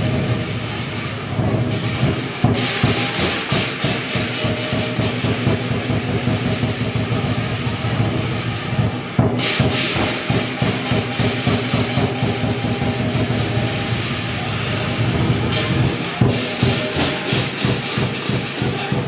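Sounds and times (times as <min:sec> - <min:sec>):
cymbal crash: 0:00.0 - 0:19.0
drum cymbals and gong rhythm: 0:00.0 - 0:19.0.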